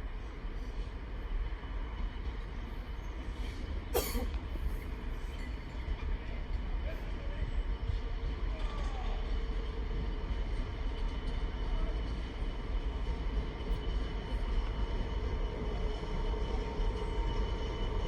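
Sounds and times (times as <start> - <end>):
diesel locomotive rumbling: 0.0 - 18.0.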